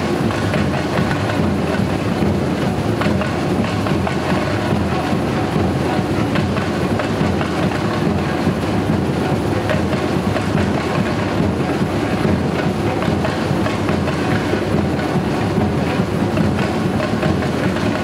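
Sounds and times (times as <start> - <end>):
bass drums: 0.0 - 18.0
smaller drums: 0.0 - 18.0.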